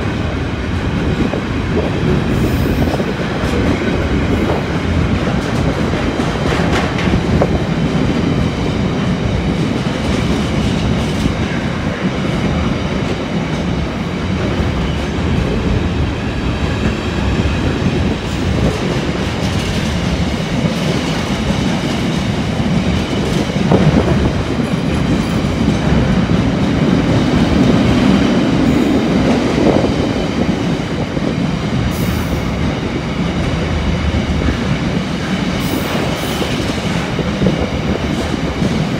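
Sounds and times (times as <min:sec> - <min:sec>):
freight train wagons passing: 0:00.0 - 0:38.9
steel wheels clattering on rails: 0:00.0 - 0:38.9.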